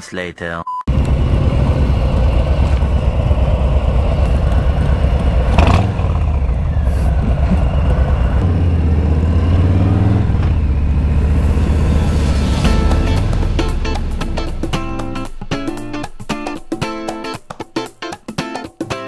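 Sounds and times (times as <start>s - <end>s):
motorcycle engine idling and revving: 0.9s - 18.4s.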